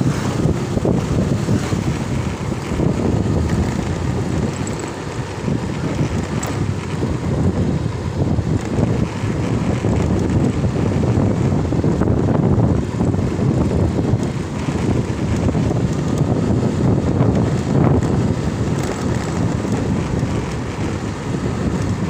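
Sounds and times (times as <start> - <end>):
motorcycle running: 0.0 - 22.0
wind buffeting the microphone: 0.0 - 22.0.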